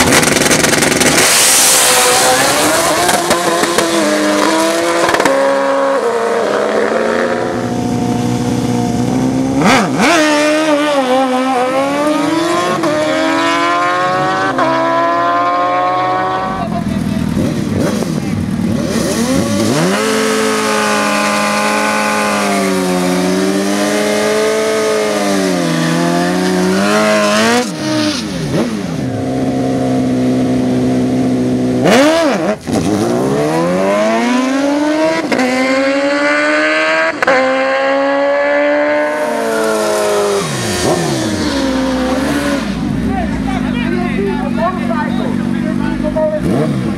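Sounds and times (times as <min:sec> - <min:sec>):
racing engines revving: 0:00.0 - 0:46.9.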